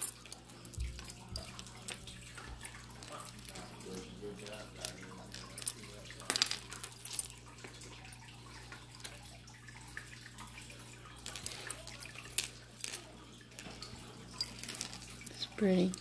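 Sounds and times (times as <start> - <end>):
jewelry clicking and clinking: 0.0 - 9.3, 9.9 - 16.0.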